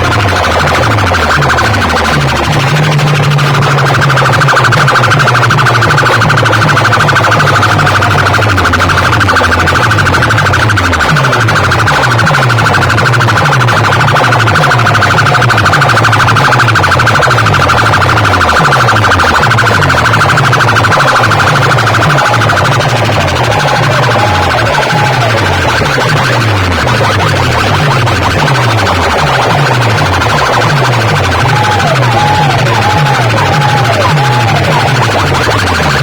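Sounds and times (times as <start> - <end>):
harsh alarm-like tone: 0.0 - 36.0.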